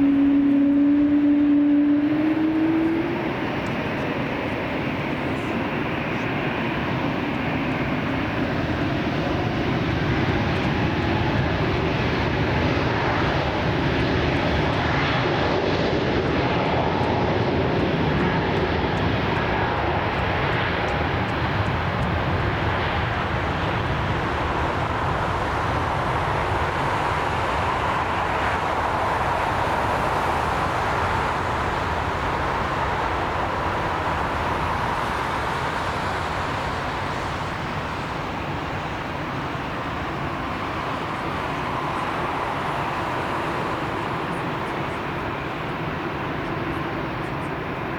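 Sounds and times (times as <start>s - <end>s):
faint whine: 0.0s - 16.5s, 17.1s - 47.9s
jet engines running: 0.0s - 47.9s.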